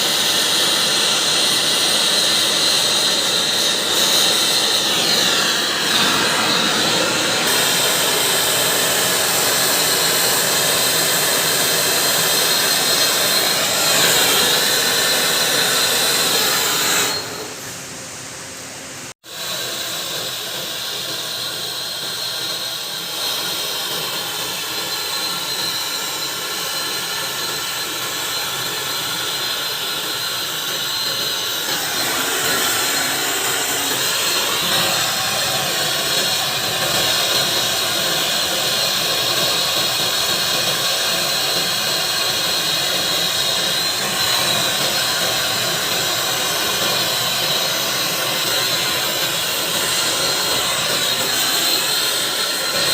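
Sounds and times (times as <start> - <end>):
blow torch flame hissing: 0.0 - 18.0, 19.1 - 52.9.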